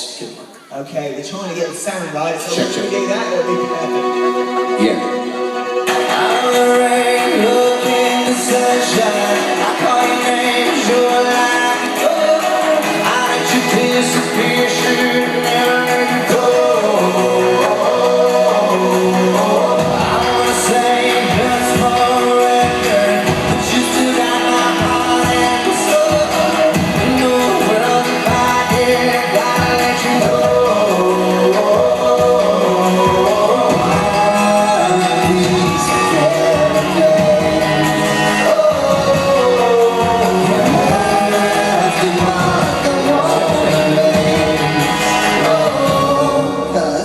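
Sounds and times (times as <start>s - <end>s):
backing band playing: 0.0s - 47.0s
male vocal group singing: 1.7s - 47.0s.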